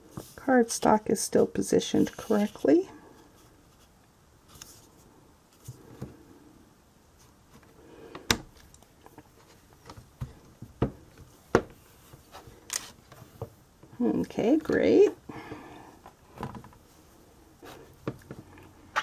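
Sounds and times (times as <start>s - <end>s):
soft handling noise: 1.9s - 6.4s, 7.1s - 19.0s.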